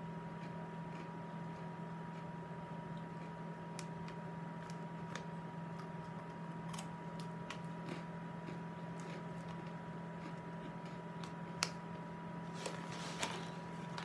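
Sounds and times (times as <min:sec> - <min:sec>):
steady low hum: 0:00.0 - 0:14.0
pretzels crunching: 0:00.4 - 0:14.0.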